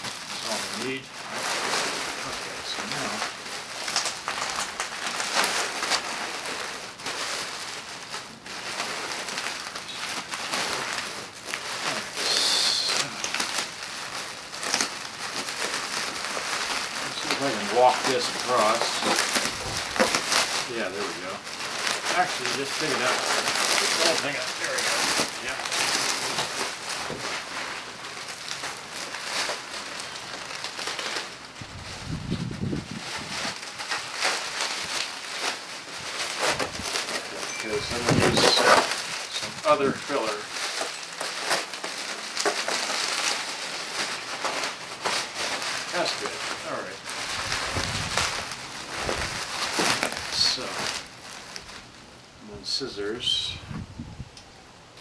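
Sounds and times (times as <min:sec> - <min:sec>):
bubble wrap crinkling: 0:00.0 - 0:54.0.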